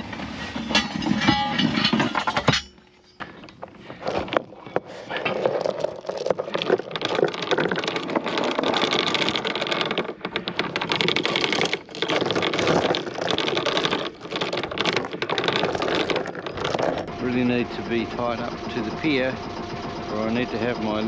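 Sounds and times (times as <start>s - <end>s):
outboard motor running: 3.2s - 21.0s.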